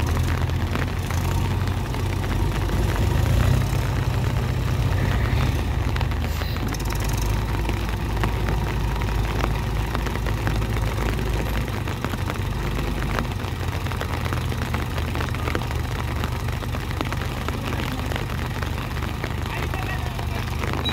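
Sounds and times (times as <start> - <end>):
diesel engines droning: 0.0 - 20.9.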